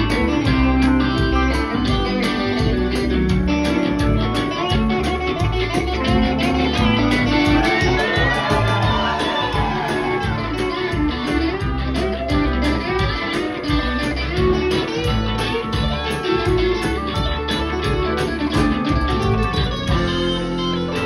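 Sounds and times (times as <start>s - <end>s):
drum kit: 0.0s - 21.0s
electric guitars playing: 0.0s - 21.0s.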